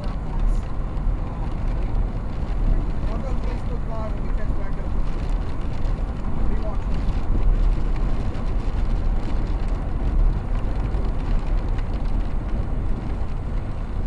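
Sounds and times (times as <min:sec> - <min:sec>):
vehicle road rumble: 0:00.0 - 0:14.0.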